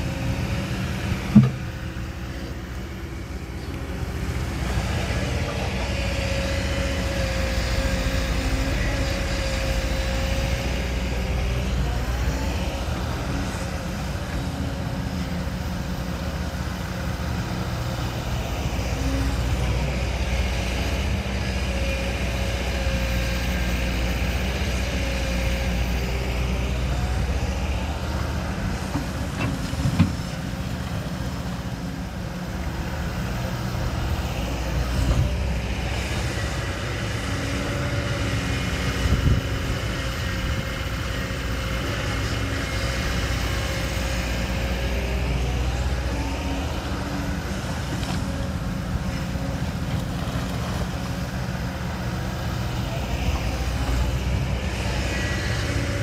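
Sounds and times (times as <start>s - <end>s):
diesel machinery engine running: 0.0s - 56.0s.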